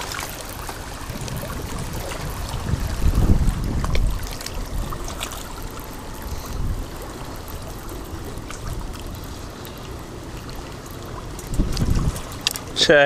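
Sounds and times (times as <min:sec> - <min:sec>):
low rumble: 0:00.0 - 0:12.6
water lapping at shoreline: 0:00.0 - 0:13.0.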